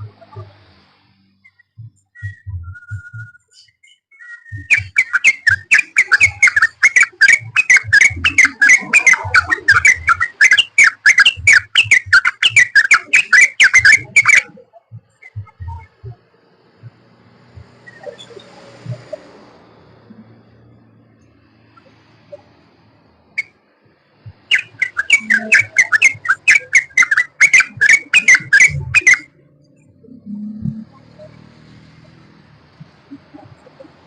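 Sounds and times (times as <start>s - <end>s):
bird singing bubbly chatter: 0.0s - 16.6s, 17.5s - 19.3s, 24.2s - 32.2s, 33.0s - 34.0s.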